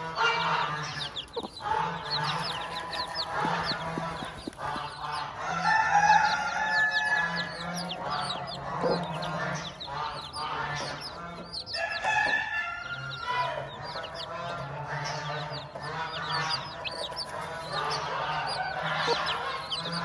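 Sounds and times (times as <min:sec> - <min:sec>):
chickens clucking: 0:00.0 - 0:20.0
chicks peeping: 0:00.0 - 0:20.0.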